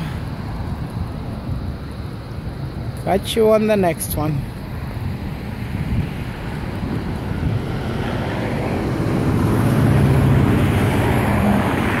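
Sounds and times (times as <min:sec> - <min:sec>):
engine hum: 0:00.0 - 0:12.0
rushing noise: 0:00.0 - 0:12.0.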